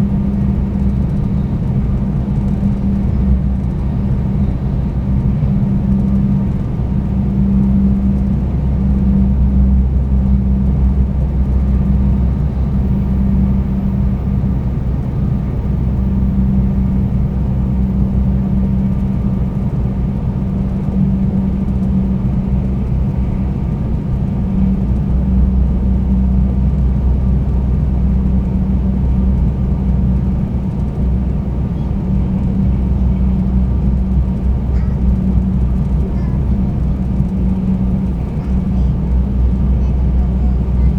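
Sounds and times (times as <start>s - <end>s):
train cabin rumble: 0.0s - 40.9s.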